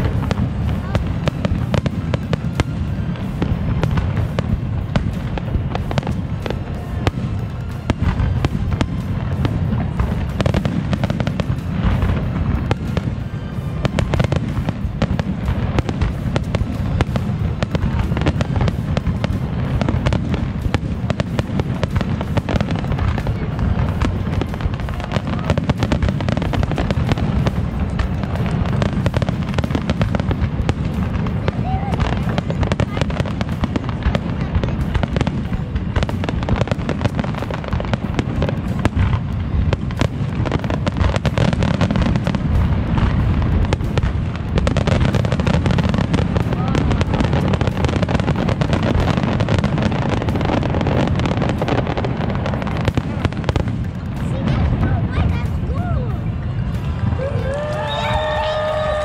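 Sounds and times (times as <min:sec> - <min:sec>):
fireworks shells bursting: 0:00.0 - 0:59.0.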